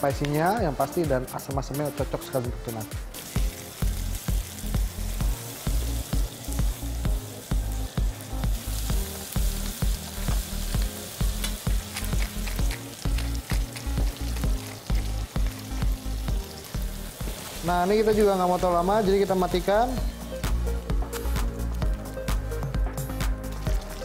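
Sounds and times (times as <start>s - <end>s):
background music with bass beat: 0.0s - 24.0s
fish sizzling in a frying pan: 2.1s - 24.0s.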